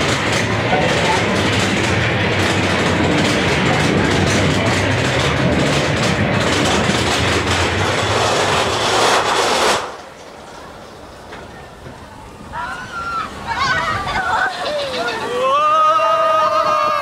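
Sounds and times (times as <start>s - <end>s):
roller coaster rumble: 0.0s - 17.0s
wheels rattling on track: 0.0s - 17.0s.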